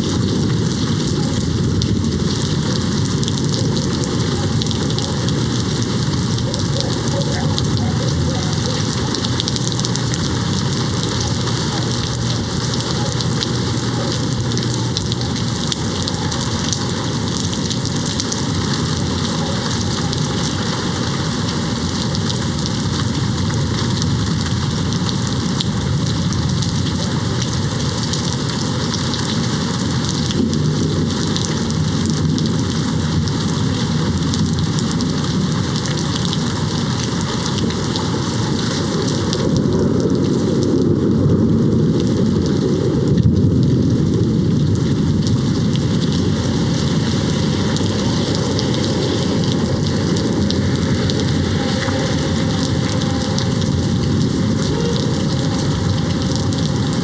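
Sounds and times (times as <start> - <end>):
distant thunder rumble: 0.0 - 57.0
rain pattering on a window: 0.0 - 57.0.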